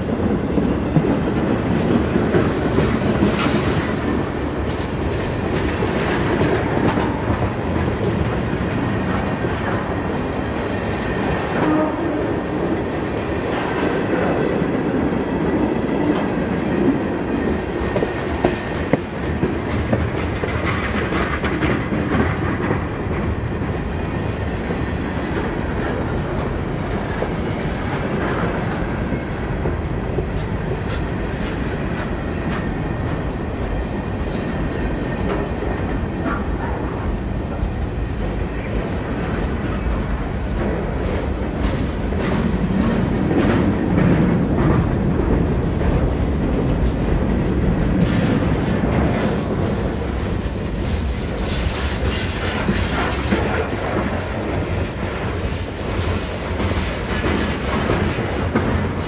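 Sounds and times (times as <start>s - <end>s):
train wheels clicking over rail joints: 0.0s - 24.0s, 24.6s - 59.0s
train rumble: 0.0s - 59.0s.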